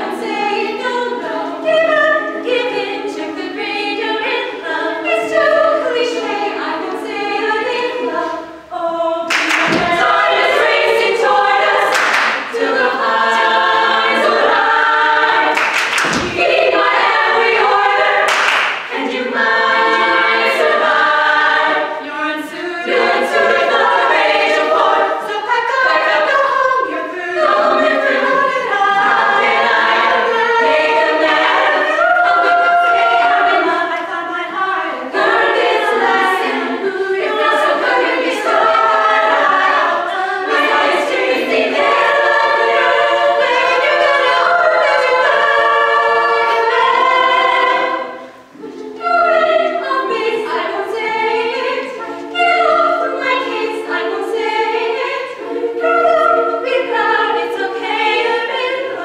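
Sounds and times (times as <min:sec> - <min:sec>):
women singing a cappella: 0:00.0 - 0:59.0.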